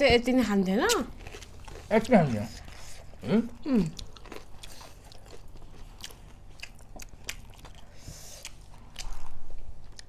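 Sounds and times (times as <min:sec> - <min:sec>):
chewing and biting food: 0:00.7 - 0:10.0.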